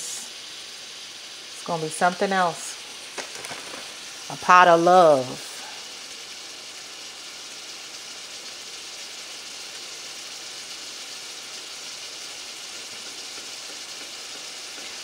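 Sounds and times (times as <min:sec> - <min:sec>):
vegetables and sausage sizzling: 0:00.0 - 0:15.0.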